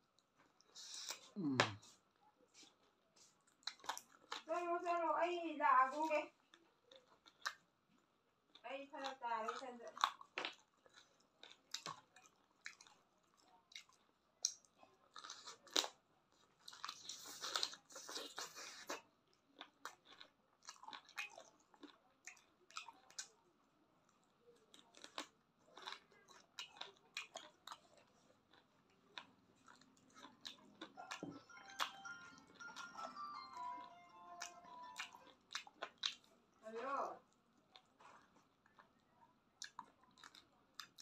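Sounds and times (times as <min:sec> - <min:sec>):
wet chewing and crunching: 0:00.0 - 0:04.7, 0:05.9 - 0:36.6, 0:37.2 - 0:41.0.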